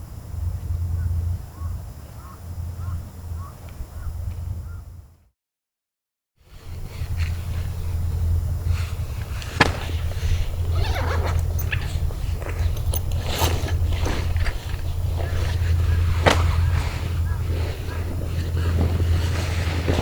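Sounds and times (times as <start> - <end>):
steady low rumble: 0.0 - 5.2, 6.6 - 20.0.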